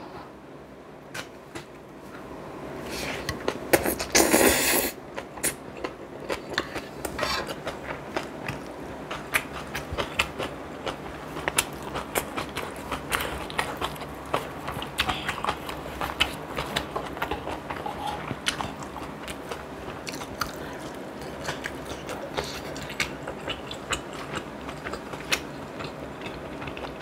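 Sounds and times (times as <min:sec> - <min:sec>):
close chewing and mouth sounds: 0:03.2 - 0:27.0.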